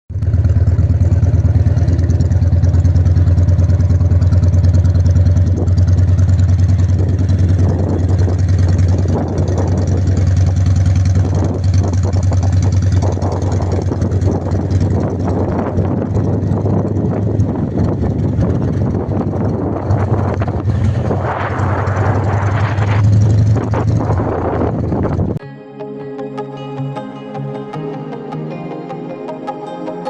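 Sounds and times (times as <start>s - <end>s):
engine running at low revs: 0.1s - 25.4s.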